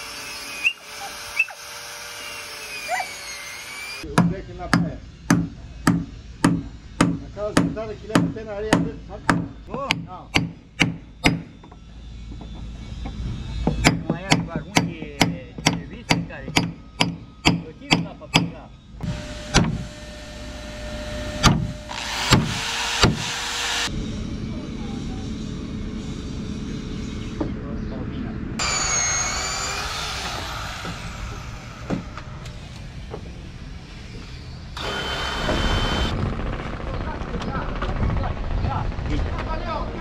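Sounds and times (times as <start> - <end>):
steady humming noise: 3.9 - 40.0.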